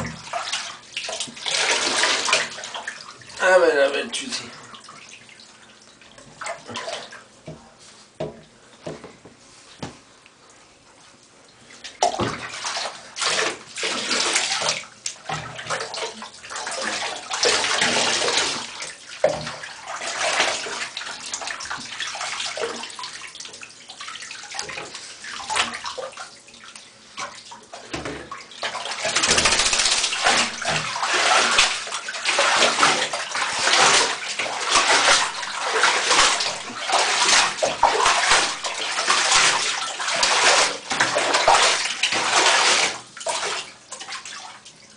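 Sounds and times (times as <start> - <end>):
bathwater sloshing and splashing: 0.0 - 44.9.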